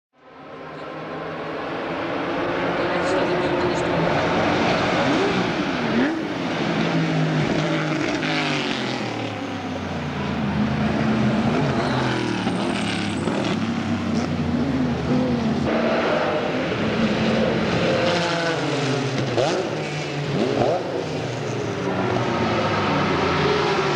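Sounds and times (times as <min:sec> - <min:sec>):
race car engines passing: 0:00.2 - 0:23.9.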